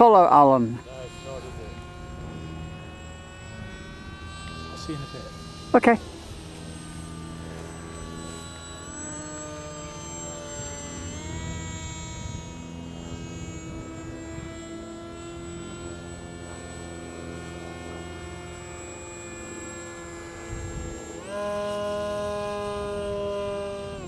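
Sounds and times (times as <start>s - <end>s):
model plane motor buzzing: 0.0s - 24.0s.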